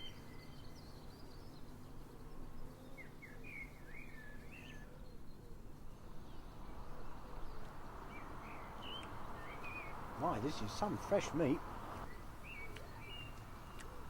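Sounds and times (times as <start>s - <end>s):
low background hum: 0.0s - 14.0s
small birds chirping: 0.0s - 14.0s.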